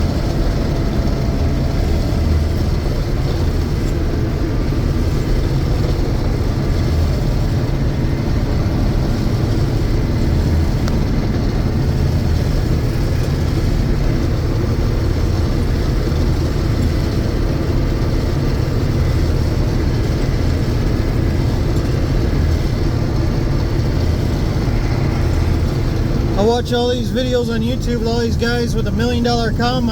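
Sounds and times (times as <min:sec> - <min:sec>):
combine harvester engine drone: 0:00.0 - 0:29.9.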